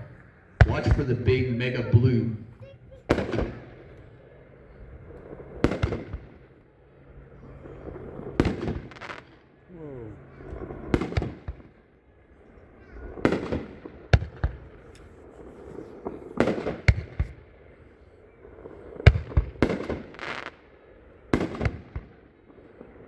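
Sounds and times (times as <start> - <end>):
firework aerial bursts: 0.0 - 11.7, 12.7 - 22.1.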